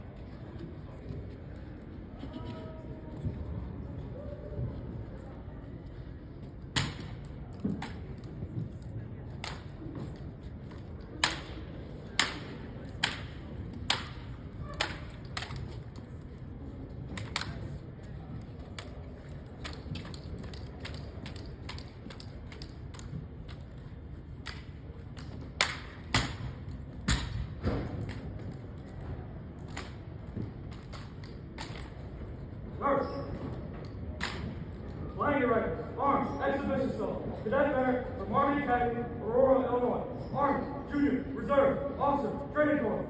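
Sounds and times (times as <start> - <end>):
low background hum: 0.0 - 43.0.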